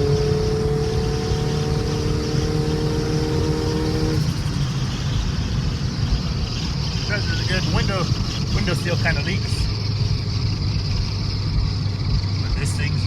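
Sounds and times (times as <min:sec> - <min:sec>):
road rumble: 0:00.0 - 0:13.0
turbocharged car engine accelerating: 0:00.0 - 0:13.0.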